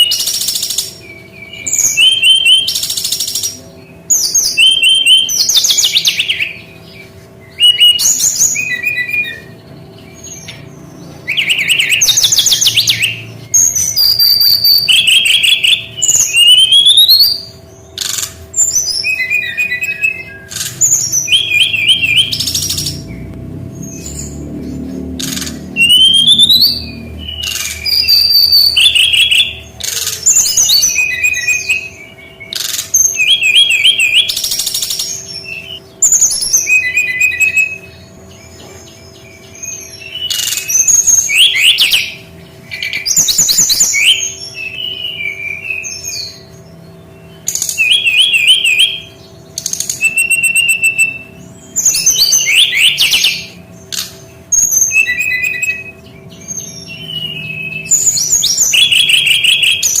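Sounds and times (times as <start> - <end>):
bird chirping and trilling: 0.0 - 60.0
faint steady hum: 0.0 - 60.0.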